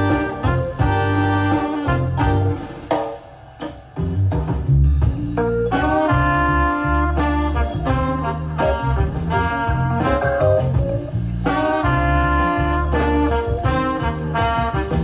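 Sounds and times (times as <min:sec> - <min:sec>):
instrumental music with bass line: 0:00.0 - 0:15.0.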